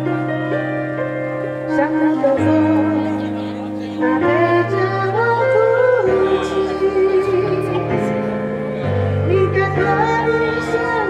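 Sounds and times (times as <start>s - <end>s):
instrumental backing music: 0.0s - 11.0s
person singing: 1.6s - 11.0s.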